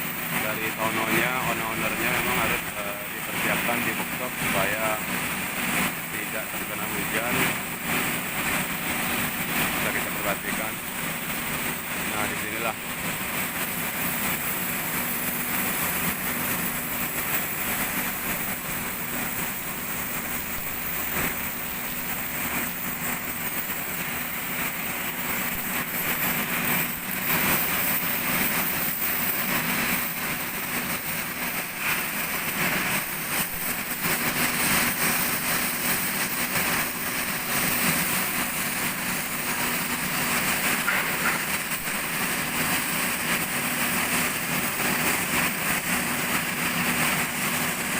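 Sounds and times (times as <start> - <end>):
workshop machinery hum: 0.0 - 47.9.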